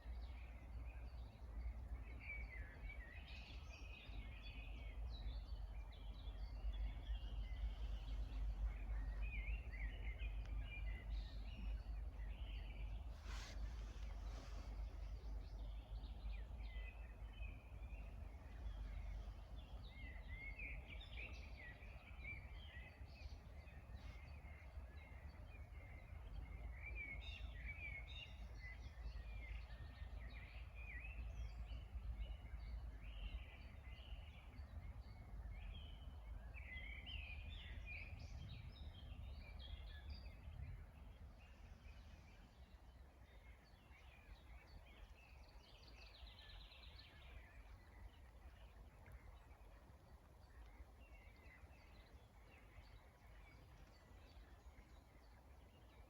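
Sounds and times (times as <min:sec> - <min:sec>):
low background rumble: 0:00.0 - 0:56.0
songbirds singing and chirping: 0:00.0 - 0:56.0.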